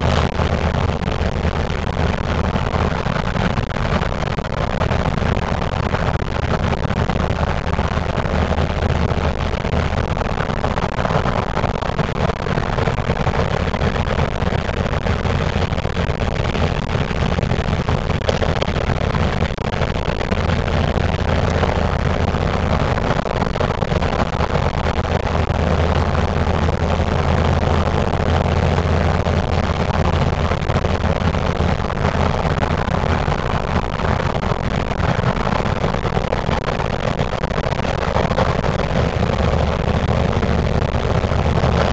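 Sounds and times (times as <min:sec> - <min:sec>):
car engine drone: 0:00.0 - 0:41.9
tyre and wind noise: 0:00.0 - 0:41.9.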